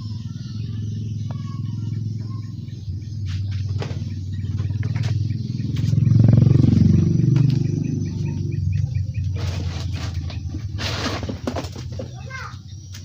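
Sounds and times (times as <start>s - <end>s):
small engine running: 0.0s - 12.2s.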